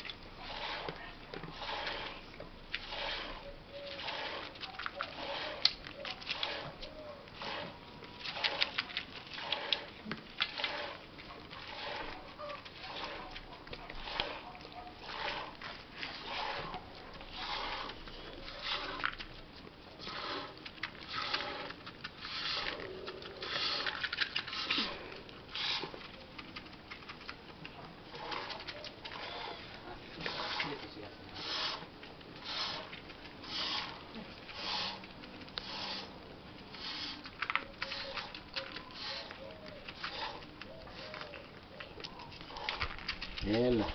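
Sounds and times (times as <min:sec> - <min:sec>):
milk squirting into a pail: 0:00.0 - 0:43.9.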